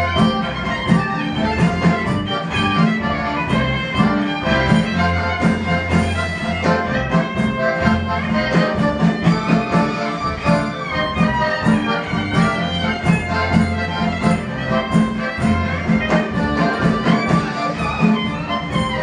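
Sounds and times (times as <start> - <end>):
bass notes: 0.0 - 19.0
drum strokes: 0.0 - 19.0
fiddle melody: 0.0 - 19.0.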